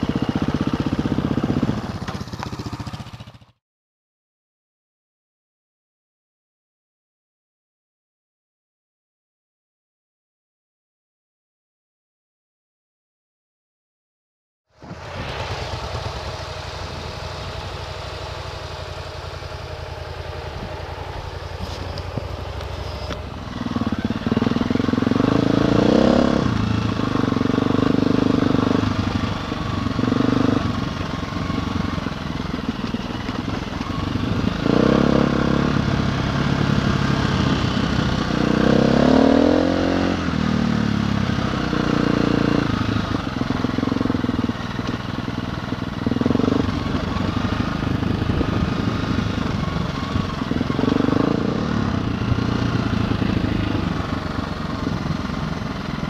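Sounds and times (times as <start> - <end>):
motorcycle engine revving: 0.0 - 3.6, 14.7 - 56.0.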